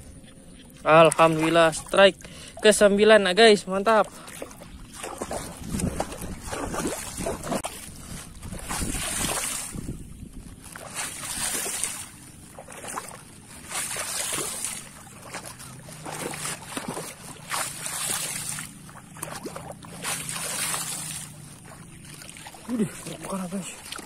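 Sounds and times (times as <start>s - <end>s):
wading through sloshing water: 0.0s - 24.0s.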